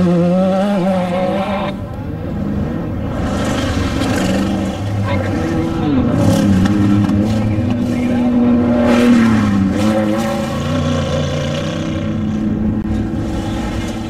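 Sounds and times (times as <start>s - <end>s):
loud vehicle engine revving: 0.0s - 14.0s.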